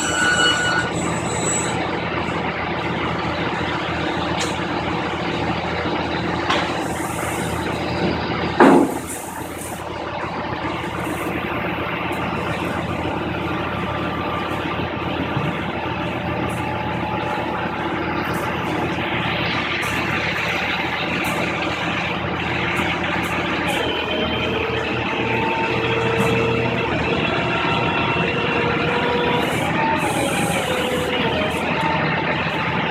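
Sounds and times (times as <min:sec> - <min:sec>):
heavy vehicle engine idling: 0:00.7 - 0:32.9.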